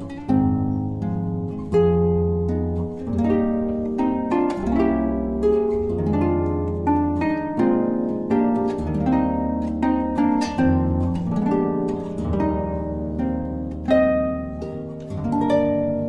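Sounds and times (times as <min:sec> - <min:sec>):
plucked harp-like notes: 0:00.0 - 0:16.0.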